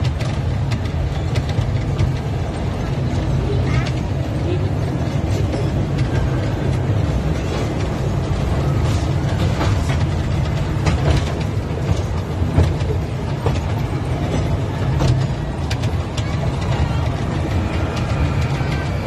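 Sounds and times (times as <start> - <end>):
carriage wheels clicking and knocking: 0.0 - 4.2, 5.0 - 19.0
ride train rumbling on track: 0.0 - 19.0.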